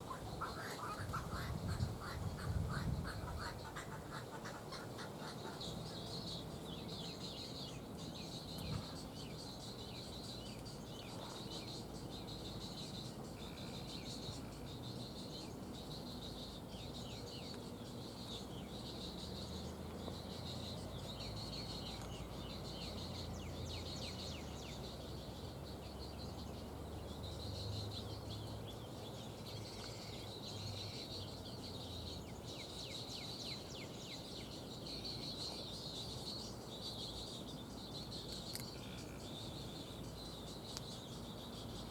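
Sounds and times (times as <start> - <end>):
chirping bird calls: 0.0 - 41.9.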